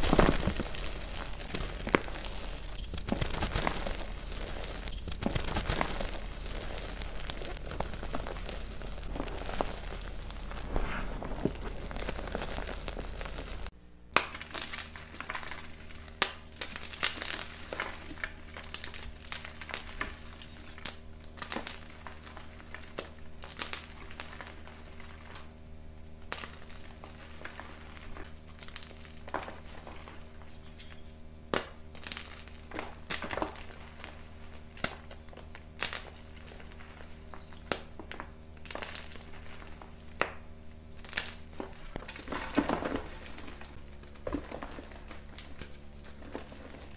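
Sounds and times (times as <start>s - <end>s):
chalk crushed by hand: 0.0s - 46.9s.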